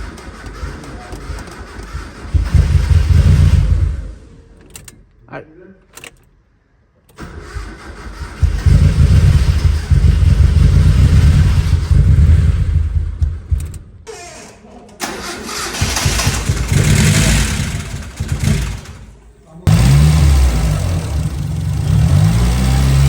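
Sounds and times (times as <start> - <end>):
car engine cranking and running: 0.0 - 5.1, 7.1 - 14.1, 15.0 - 23.0.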